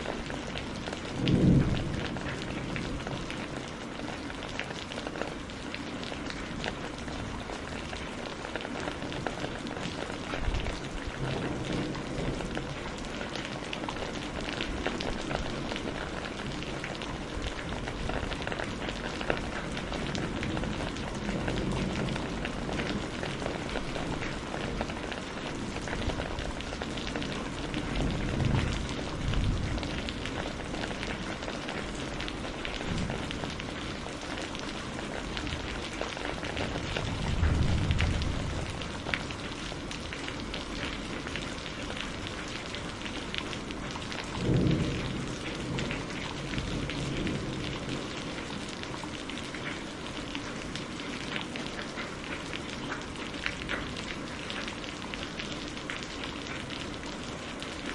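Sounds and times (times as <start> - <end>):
rain drops ticking: 0.0 - 57.9.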